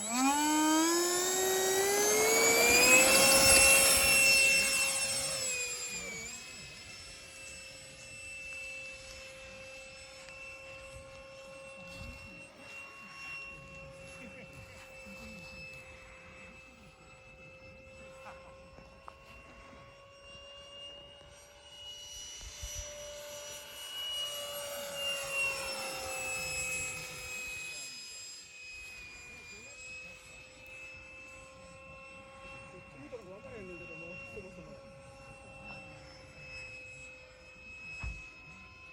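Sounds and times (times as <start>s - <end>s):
model jet engines whining: 0.0s - 38.9s.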